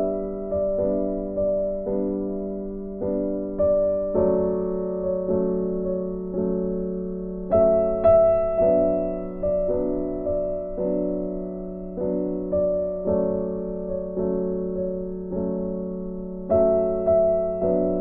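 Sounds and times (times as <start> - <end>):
soft piano chords: 0.0 - 18.0.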